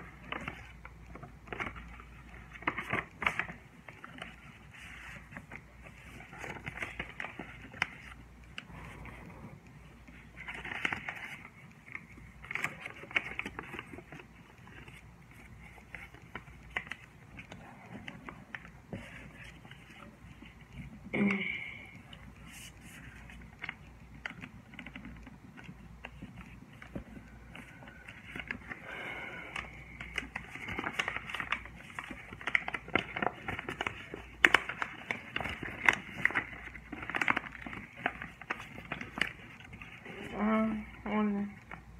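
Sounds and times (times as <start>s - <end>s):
paper rustling and crinkling: 0.0s - 21.3s, 21.9s - 41.9s.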